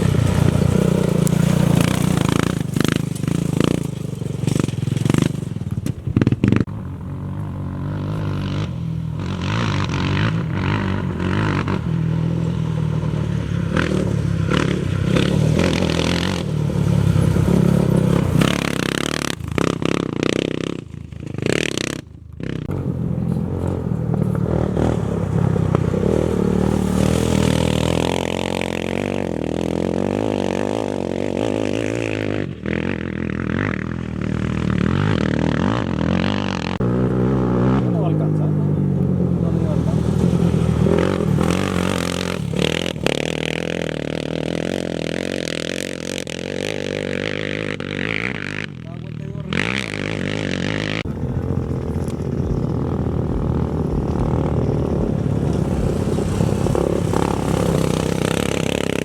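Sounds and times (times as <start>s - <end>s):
off-road motorcycle engines revving: 0.0s - 59.0s.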